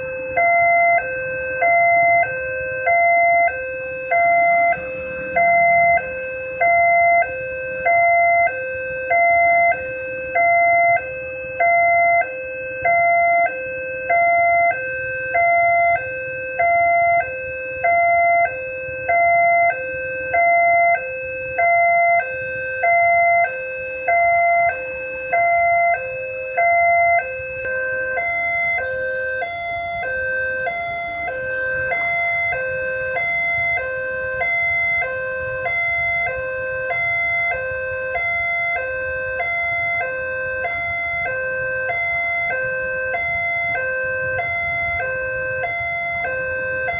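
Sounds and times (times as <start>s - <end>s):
two-tone crossing alarm: 0.0s - 46.9s.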